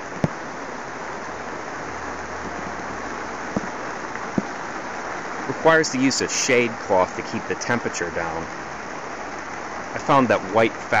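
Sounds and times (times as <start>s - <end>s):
rain on plastic sheeting: 0.0s - 11.0s
sharp rain taps: 0.0s - 11.0s.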